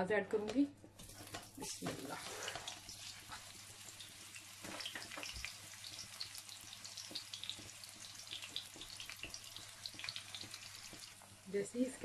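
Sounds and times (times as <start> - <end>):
onions sizzling in oil: 1.0 - 12.0.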